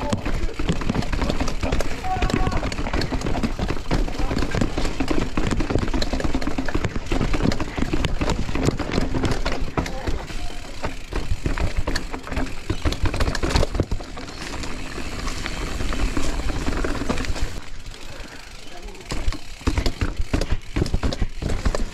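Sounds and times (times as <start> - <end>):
bike chain and frame rattling: 0.0 - 21.9
bike tyres on dirt and rock: 0.0 - 21.9.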